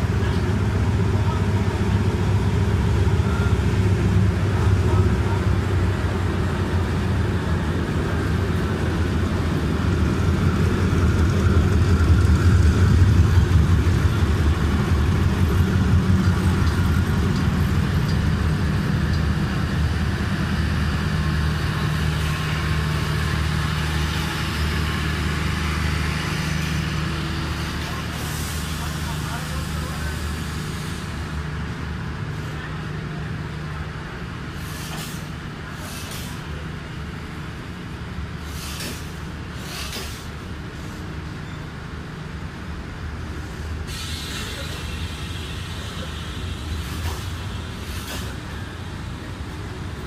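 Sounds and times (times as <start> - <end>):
diesel locomotive engine running: 0.0 - 50.0
train coaches rolling by: 0.0 - 50.0.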